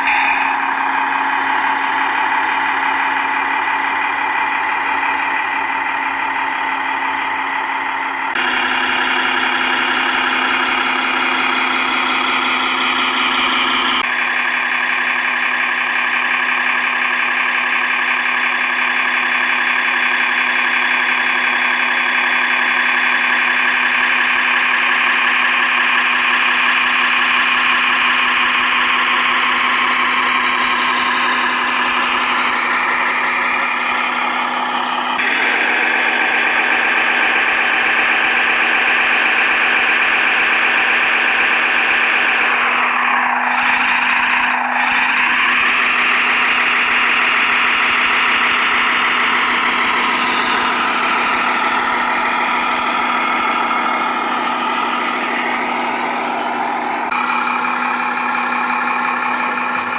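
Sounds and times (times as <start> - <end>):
toy truck motor whine: 0.0 - 59.9.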